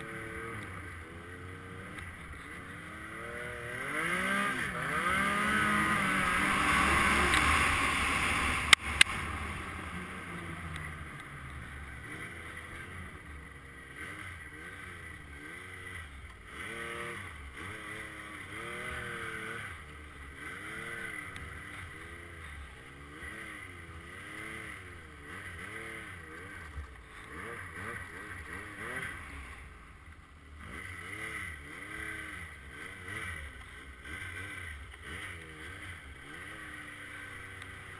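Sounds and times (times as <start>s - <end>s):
snowmobile engine revving: 0.0s - 37.9s.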